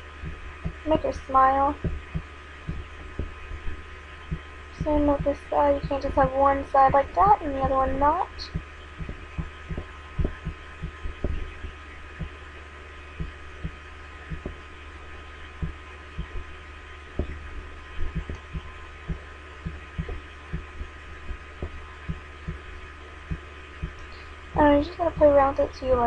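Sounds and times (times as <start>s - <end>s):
soft low thumps: 0.0s - 12.4s, 13.2s - 14.8s, 15.5s - 26.0s
electrical hum: 0.0s - 26.0s.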